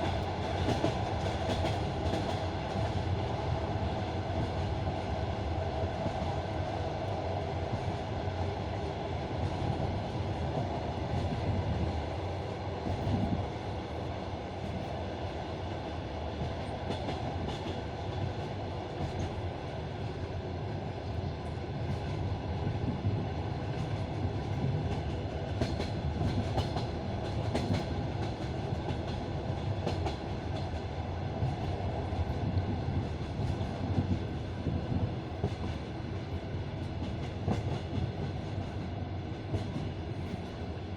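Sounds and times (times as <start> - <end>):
train carriage rumbling: 0.0 - 40.9.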